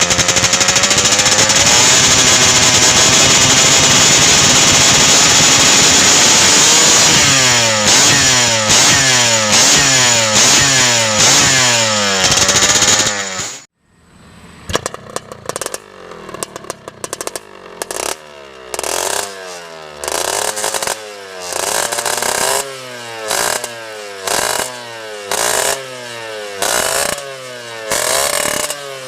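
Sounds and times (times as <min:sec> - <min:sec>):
two-stroke moped engine revving: 0:00.0 - 0:29.0.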